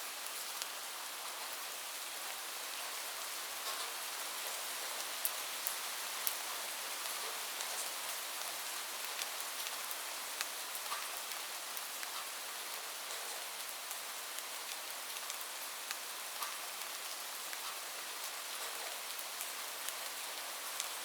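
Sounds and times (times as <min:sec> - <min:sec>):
steady rain hiss: 0:00.0 - 0:21.0
raindrops ticking on a surface: 0:00.1 - 0:21.0.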